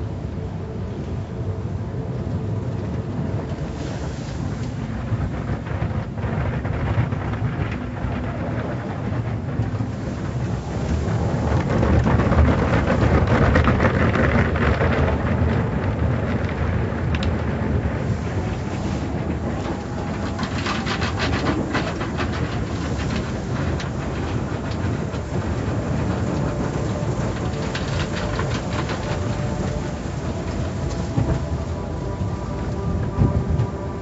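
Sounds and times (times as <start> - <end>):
car wash brushes rumbling: 0.0 - 34.0
car wash spraying water: 1.4 - 34.0.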